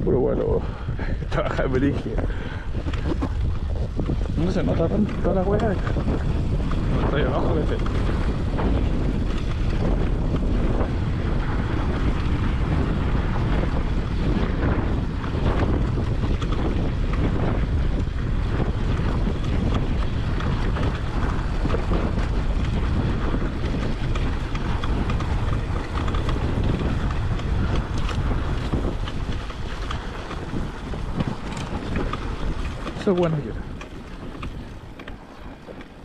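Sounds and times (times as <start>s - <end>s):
wind buffeting microphone: 0.0s - 36.0s
dirt bike engine running: 0.7s - 36.0s.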